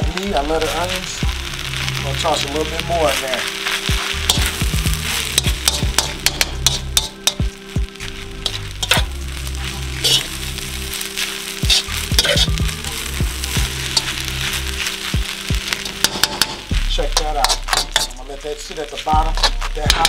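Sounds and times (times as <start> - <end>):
rice sizzling in a wok: 0.0 - 20.0
metal spatula scraping wok: 0.2 - 20.0.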